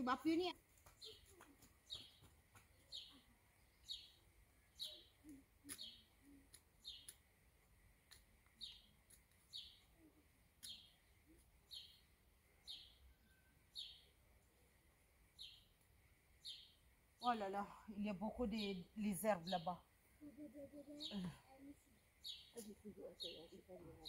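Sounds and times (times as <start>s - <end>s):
bird chirping: 0.8s - 24.0s.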